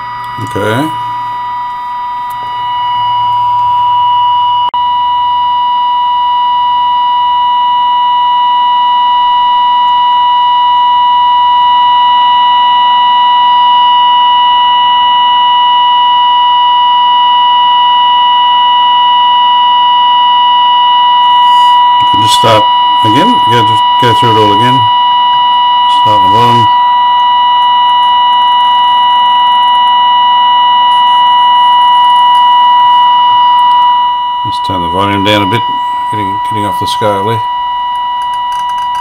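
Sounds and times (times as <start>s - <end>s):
steady test tone from radio speaker: 0.0s - 39.0s.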